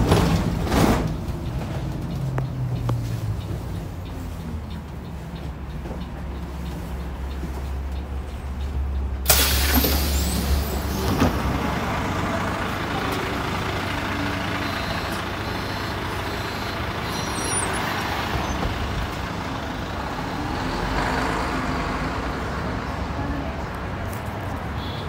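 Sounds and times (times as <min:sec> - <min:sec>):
bus engine idling: 0:00.0 - 0:25.0
street traffic noise: 0:00.0 - 0:25.0.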